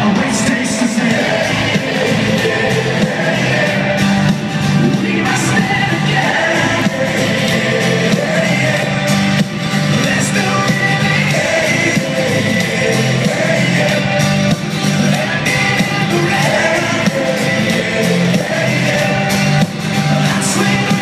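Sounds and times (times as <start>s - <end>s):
live rock band with singing: 0.0s - 21.0s.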